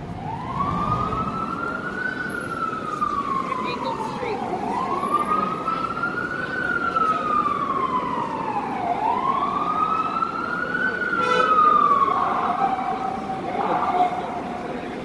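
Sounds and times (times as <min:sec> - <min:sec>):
city street noise: 0:00.0 - 0:15.0
emergency siren wailing: 0:00.0 - 0:15.0.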